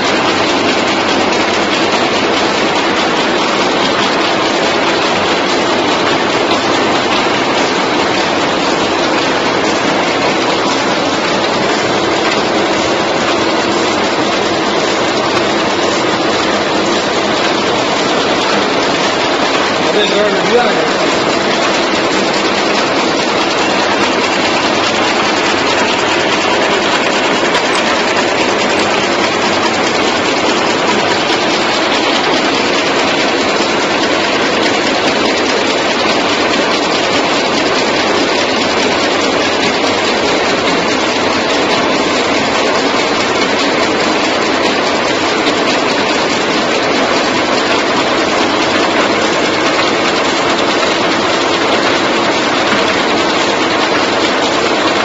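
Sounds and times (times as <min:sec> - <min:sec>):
gum machine running: 0:00.0 - 0:55.0.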